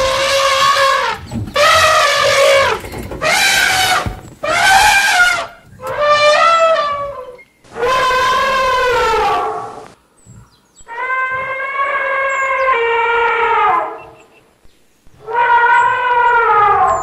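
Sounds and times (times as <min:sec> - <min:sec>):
elephant trumpeting: 0:00.0 - 0:10.0, 0:10.9 - 0:14.2, 0:15.2 - 0:17.0.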